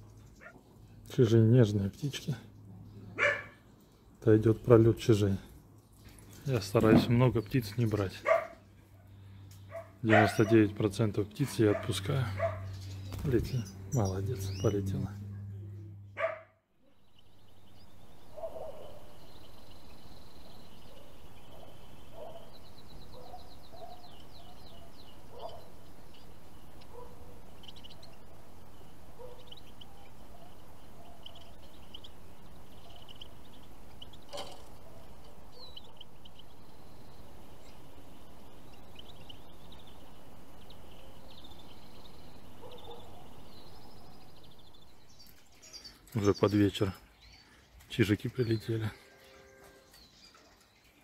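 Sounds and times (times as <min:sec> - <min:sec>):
finches chirping and twittering: 0:00.0 - 0:00.6, 0:06.4 - 0:15.6, 0:16.9 - 0:51.0
outdoor background noise: 0:00.0 - 0:51.0.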